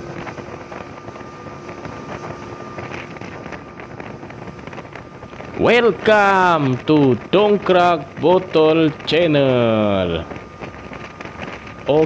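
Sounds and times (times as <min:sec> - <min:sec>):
speedboat engine humming: 0:00.0 - 0:12.0
wind buffeting microphone: 0:00.0 - 0:12.0.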